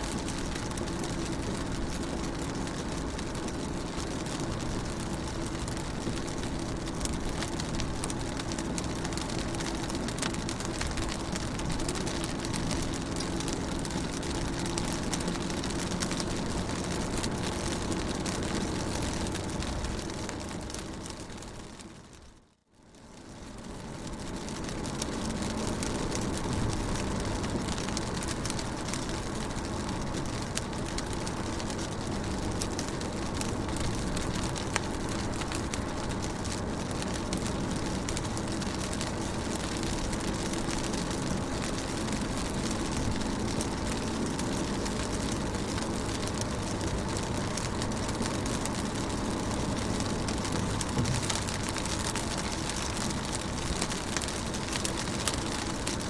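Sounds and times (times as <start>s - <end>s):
rain pattering on car: 0.0s - 56.0s.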